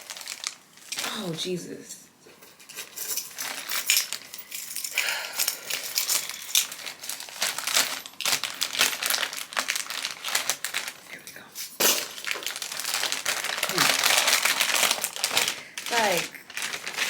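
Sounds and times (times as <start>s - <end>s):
plastic packaging crinkling: 0.0s - 1.5s, 3.2s - 4.4s, 5.6s - 17.0s.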